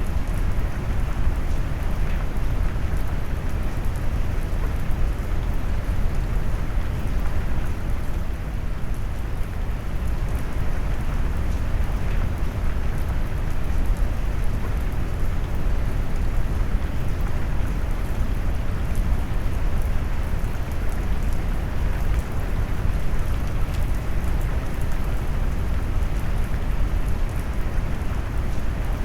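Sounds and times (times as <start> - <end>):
heavy rain: 0.0 - 29.0.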